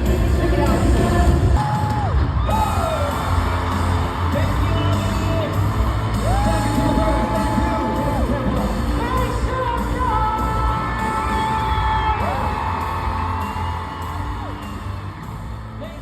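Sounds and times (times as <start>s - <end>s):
heavy bass: 0.0s - 16.0s.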